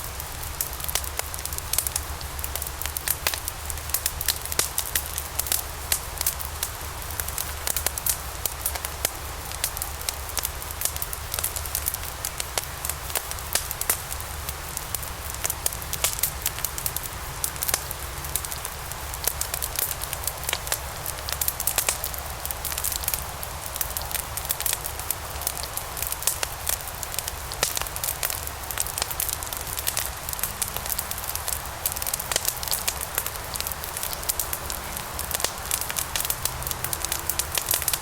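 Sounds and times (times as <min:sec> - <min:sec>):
wood logs burning and crackling: 0:00.0 - 0:38.0.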